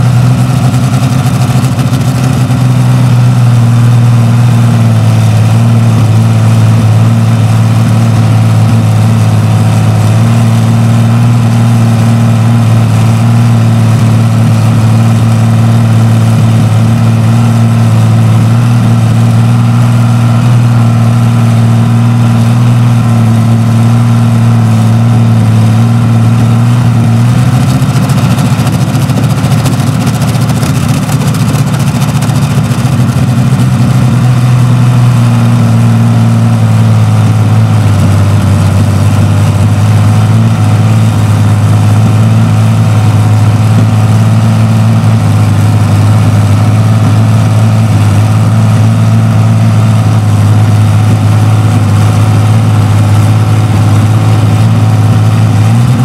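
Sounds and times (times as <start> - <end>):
tank engine running: 0.0 - 56.0.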